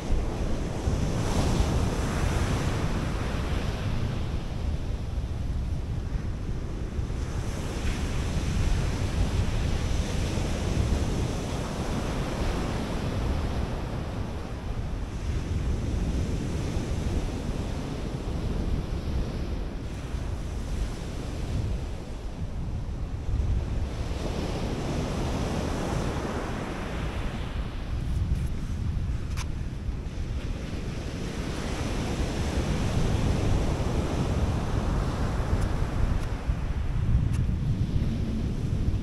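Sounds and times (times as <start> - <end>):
wind rumbling on microphone: 0.0 - 39.0.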